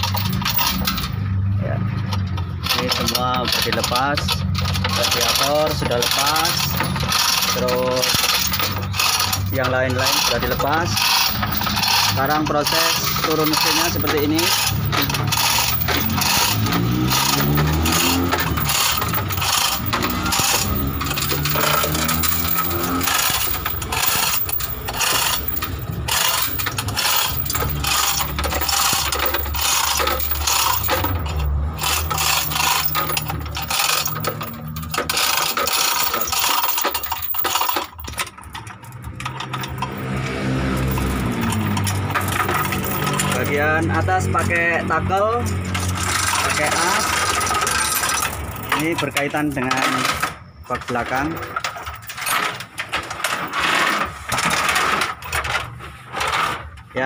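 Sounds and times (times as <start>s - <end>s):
metallic clicking and rattling: 0.0s - 57.0s.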